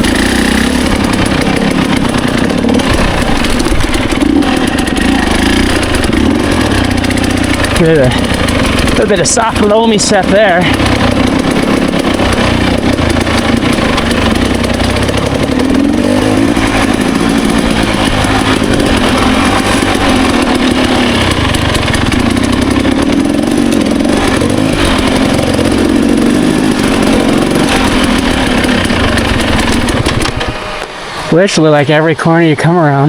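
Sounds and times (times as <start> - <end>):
two-stroke dirt bike engine: 0.0 - 33.0.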